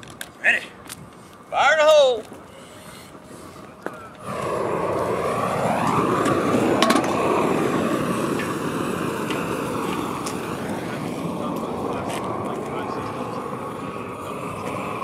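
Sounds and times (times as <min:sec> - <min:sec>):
propane torch roaring: 0:00.0 - 0:15.0.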